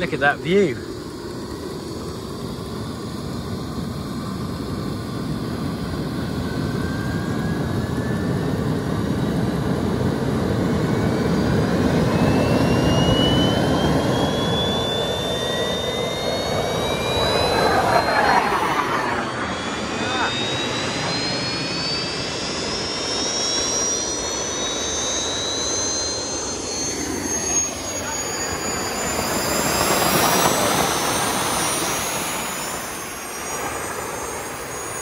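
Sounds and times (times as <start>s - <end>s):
jet roar overhead: 0.0s - 35.0s
small turbine engines whining: 0.0s - 35.0s.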